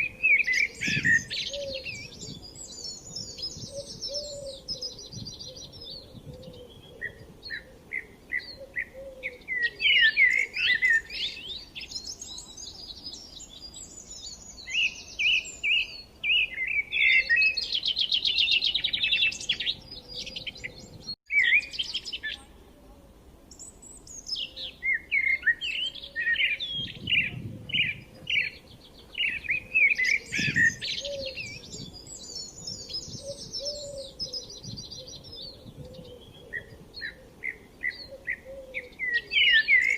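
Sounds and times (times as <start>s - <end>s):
songbirds chirping and singing: 0.0s - 22.6s, 23.5s - 39.9s.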